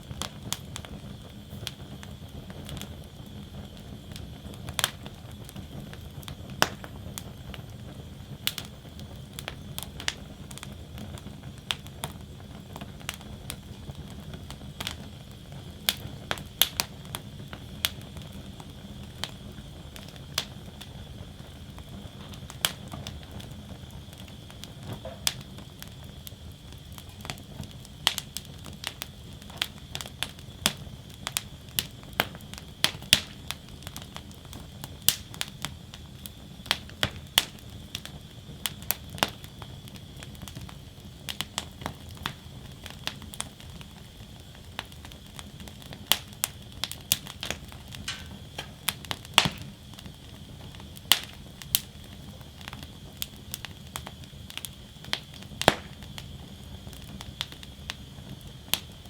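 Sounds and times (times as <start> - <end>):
burning wood crackling and popping: 0.0 - 59.0
low rumble of flames: 0.0 - 59.0.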